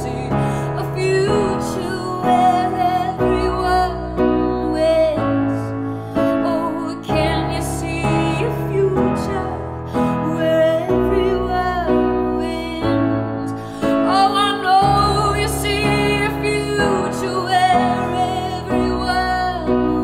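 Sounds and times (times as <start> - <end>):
piano chords: 0.0 - 20.0
woman singing with vibrato: 0.0 - 20.0.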